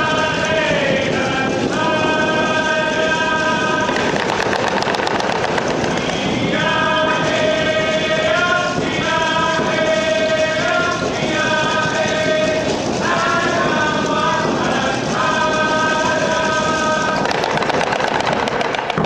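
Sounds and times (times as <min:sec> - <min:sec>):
group singing sustained notes: 0:00.0 - 0:18.9
rapid drum beating: 0:00.0 - 0:19.0.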